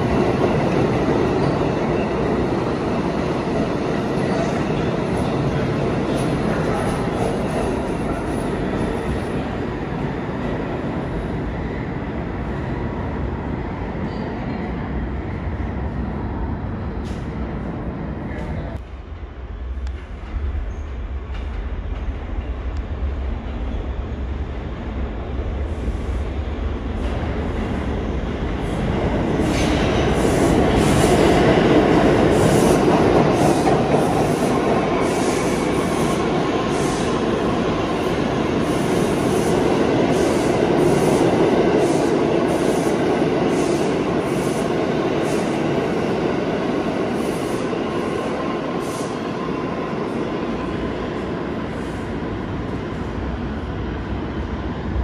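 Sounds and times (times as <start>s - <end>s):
subway train rumbling: 0.0s - 55.0s.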